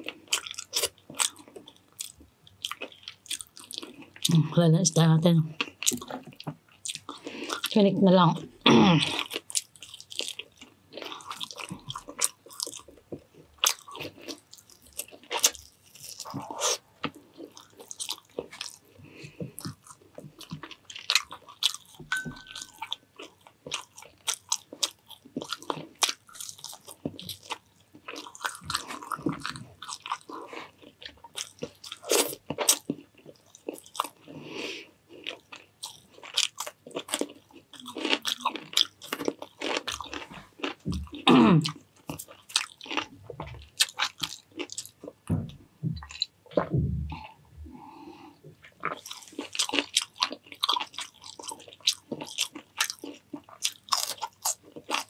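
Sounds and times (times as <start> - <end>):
person chewing food: 0.0 - 4.4, 5.6 - 7.8, 8.4 - 55.0.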